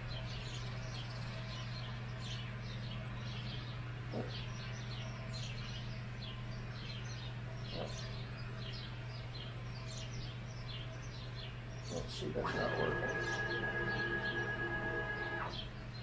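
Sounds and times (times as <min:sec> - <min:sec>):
low electrical hum: 0:00.0 - 0:16.0
small birds chirping: 0:00.0 - 0:16.0.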